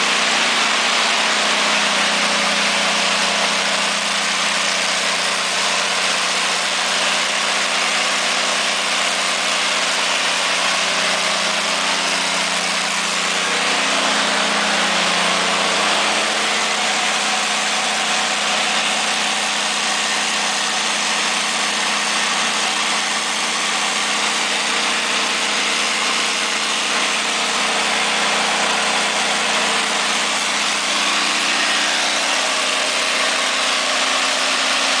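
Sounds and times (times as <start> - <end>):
diesel generator engine droning: 0.0 - 35.0.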